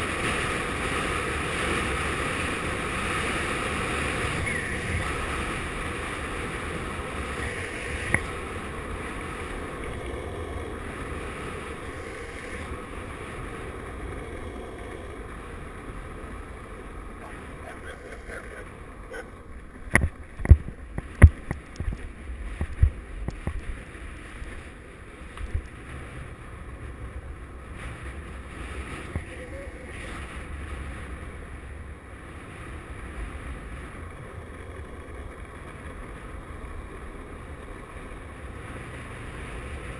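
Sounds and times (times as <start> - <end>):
skateboard wheels rolling on asphalt: 0.0 - 39.9.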